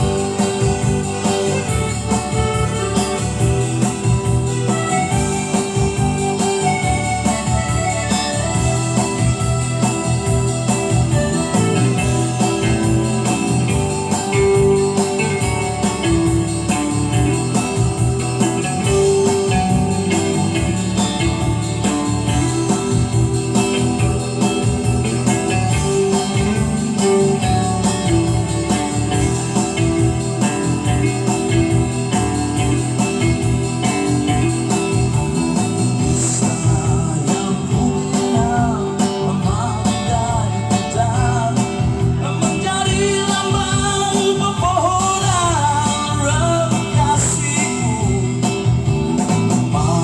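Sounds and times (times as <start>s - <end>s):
instrumental music with steady beat: 0.0s - 50.0s.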